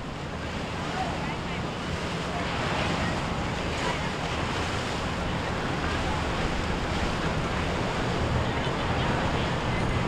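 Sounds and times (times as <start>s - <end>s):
surf: 0.0s - 10.0s.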